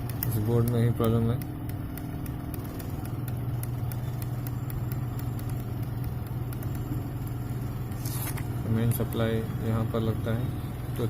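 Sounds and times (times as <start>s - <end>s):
faint regular ticking: 0.0s - 8.0s, 8.6s - 11.0s
low machine hum: 0.0s - 11.0s.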